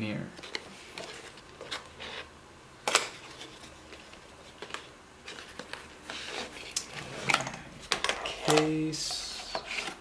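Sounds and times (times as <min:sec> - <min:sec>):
cardboard and paper rustling: 0:00.4 - 0:02.3, 0:03.1 - 0:10.0.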